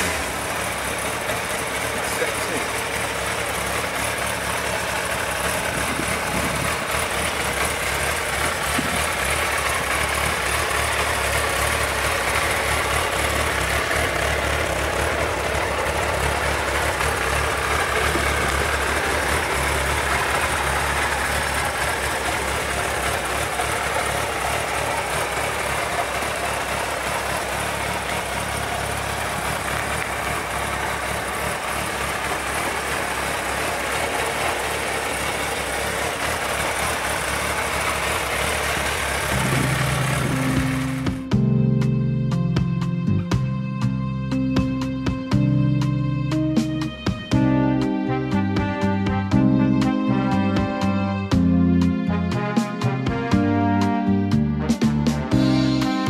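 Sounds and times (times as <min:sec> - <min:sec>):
motorcycle engine idling: 0:00.0 - 0:52.5.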